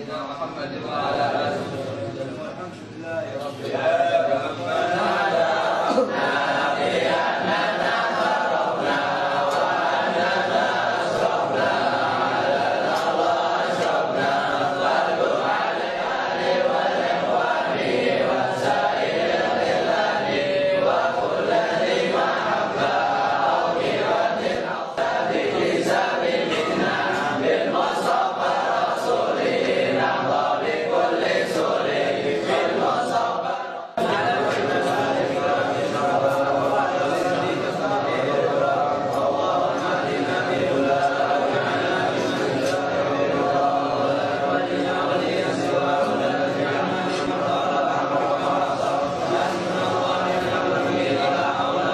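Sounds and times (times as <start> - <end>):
crowd of men chanting: 3.6 - 51.9.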